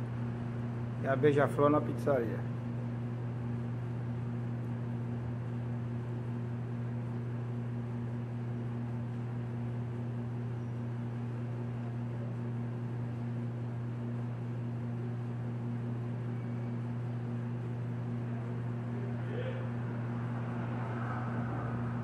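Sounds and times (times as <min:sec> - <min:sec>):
ventilation fan humming: 0:00.0 - 0:22.0.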